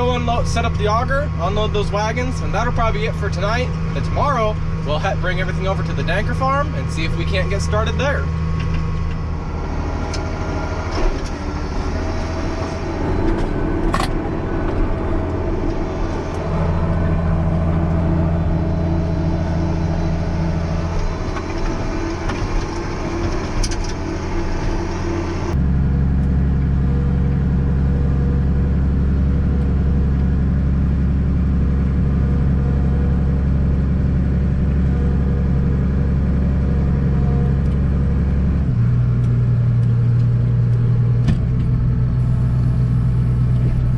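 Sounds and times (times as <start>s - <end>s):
farm machinery engine running: 0.0s - 43.9s.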